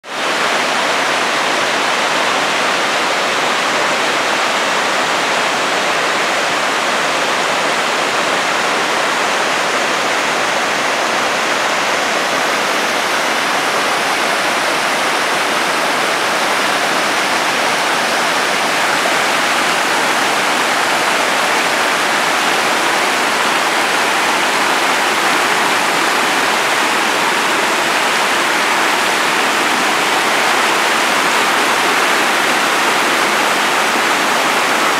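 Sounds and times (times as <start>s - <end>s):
stream rushing over boulders: 0.0s - 34.9s.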